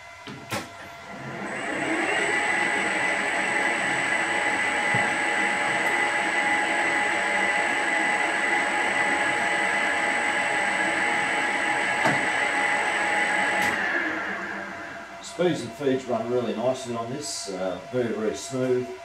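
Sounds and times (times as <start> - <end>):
cooling fan: 0.0 - 19.0
high-pitched whine: 0.8 - 19.0
metal lathe whirring: 0.8 - 19.0.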